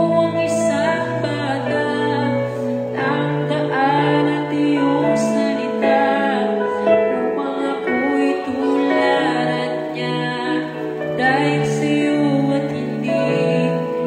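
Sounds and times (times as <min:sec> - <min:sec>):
slow song with singing: 0:00.0 - 0:14.0.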